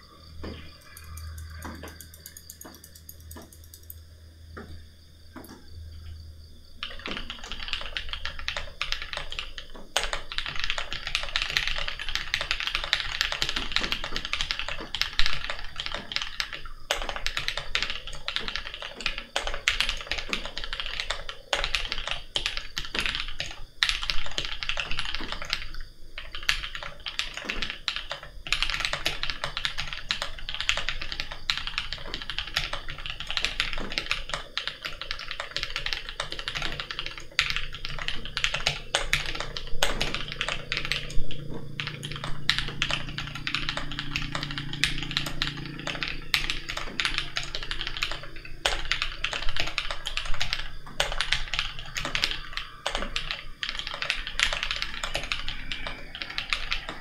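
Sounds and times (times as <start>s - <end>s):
typing on mechanical keyboard: 0.0s - 4.0s, 6.8s - 57.0s.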